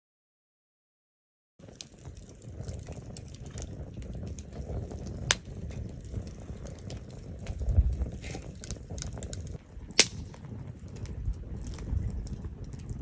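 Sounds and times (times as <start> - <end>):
fire popping: 1.6 - 13.0
wood fire crackling: 1.6 - 13.0.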